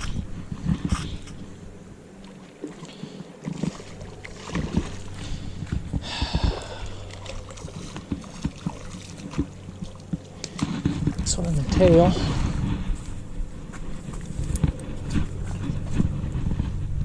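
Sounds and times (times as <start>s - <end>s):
river water splashing: 0.0s - 15.9s.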